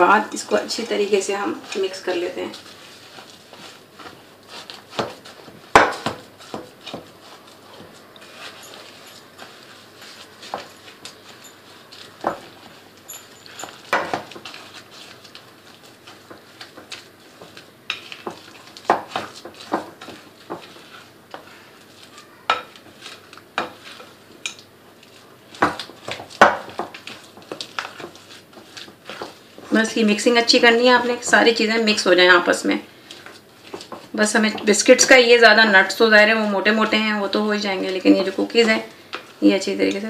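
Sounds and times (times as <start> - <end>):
utensil stirring in a bowl: 0.0 - 40.0.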